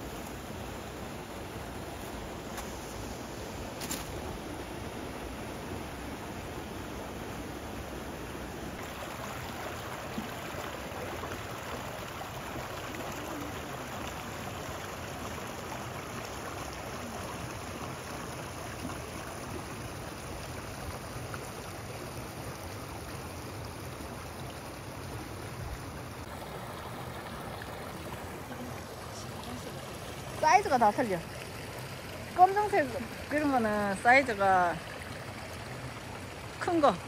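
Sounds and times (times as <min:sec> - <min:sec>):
stream water rushing: 0:00.0 - 0:37.0.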